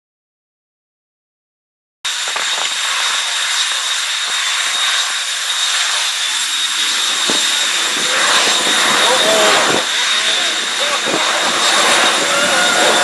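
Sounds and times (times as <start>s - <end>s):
jet engines with high whine: 2.1s - 13.0s.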